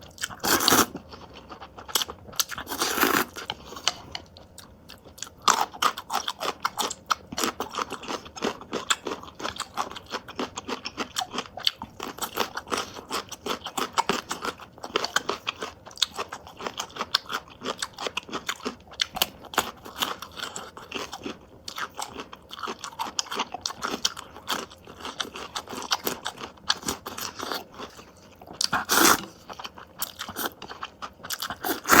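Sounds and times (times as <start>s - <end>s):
chewing crunchy food: 0.0s - 32.0s.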